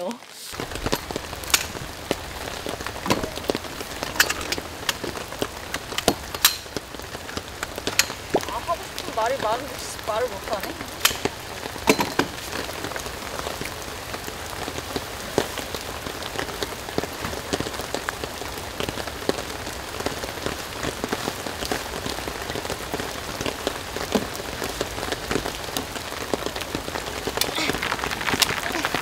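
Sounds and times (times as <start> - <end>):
raindrops ticking: 0.0 - 29.0
steady rain: 0.0 - 29.0.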